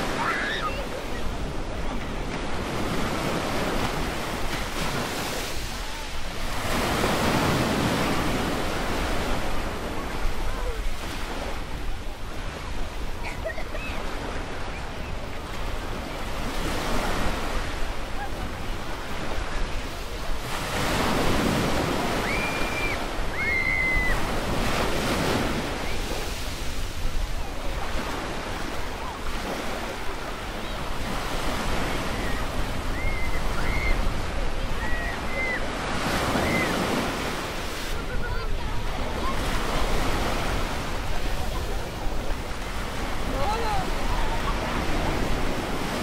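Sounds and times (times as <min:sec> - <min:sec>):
small waves washing onto beach: 0:00.0 - 0:46.0.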